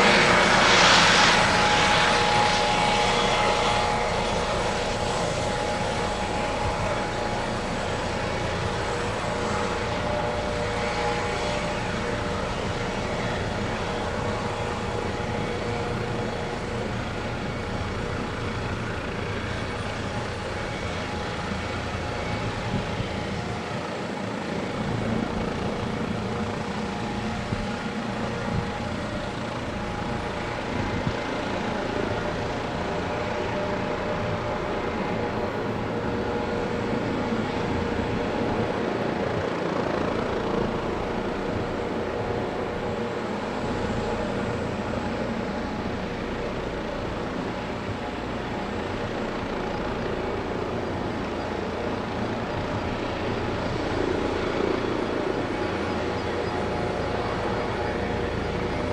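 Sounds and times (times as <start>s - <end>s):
helicopter engines and rotor: 0.0s - 58.9s.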